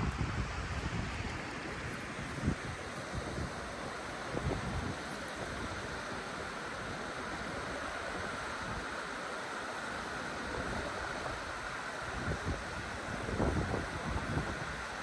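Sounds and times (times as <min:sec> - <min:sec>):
wind buffeting microphone: 0:00.0 - 0:09.0, 0:10.4 - 0:15.0
river water rushing: 0:00.0 - 0:15.0
wind: 0:00.0 - 0:15.0.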